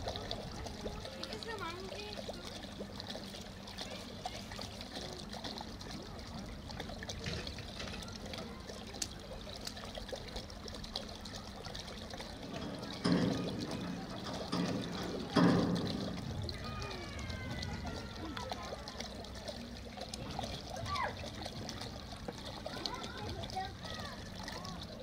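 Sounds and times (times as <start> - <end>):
faint voices: 0.0 - 25.0
water trickling and pouring: 0.0 - 25.0.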